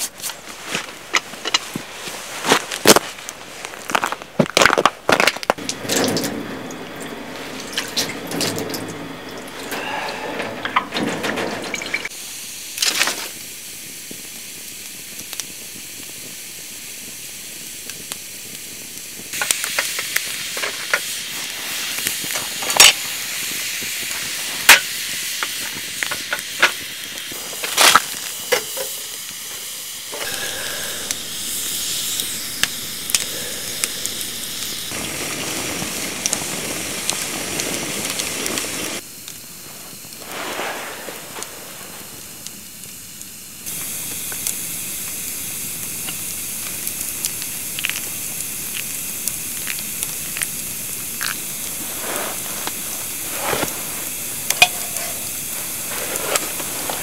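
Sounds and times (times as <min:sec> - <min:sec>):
burning logs popping: 0:00.0 - 0:57.0
wood fire hissing and crackling: 0:00.0 - 0:57.0.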